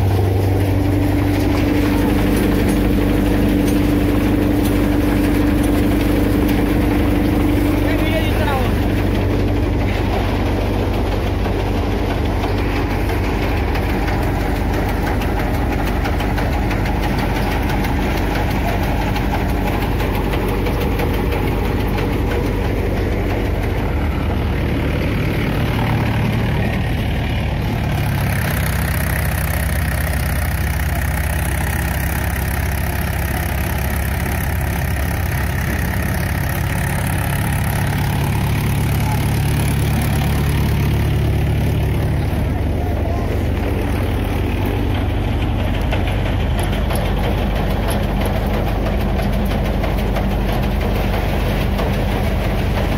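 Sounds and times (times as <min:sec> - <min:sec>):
thresher machine noise: 0:00.0 - 0:52.9
tractor diesel engine running: 0:00.0 - 0:52.9.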